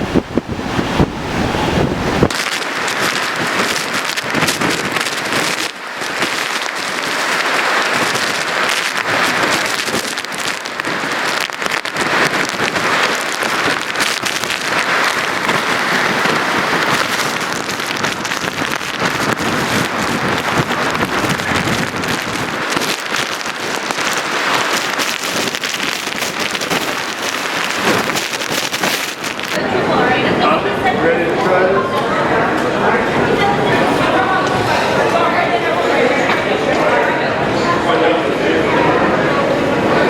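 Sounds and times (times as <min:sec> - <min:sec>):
heavy wind-driven rain: 0:00.0 - 0:40.0.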